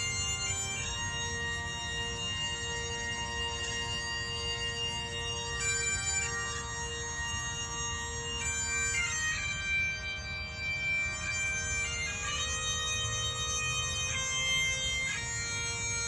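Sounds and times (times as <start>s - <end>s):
bagpipes playing slow melody: 0.0s - 16.0s.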